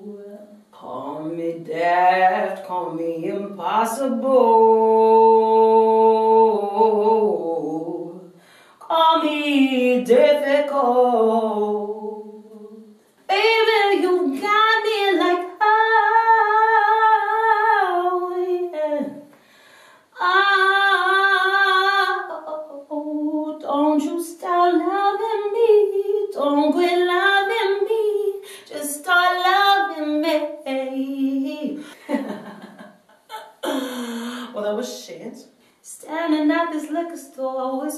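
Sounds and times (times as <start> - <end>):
woman singing a cappella: 0.0 - 37.9.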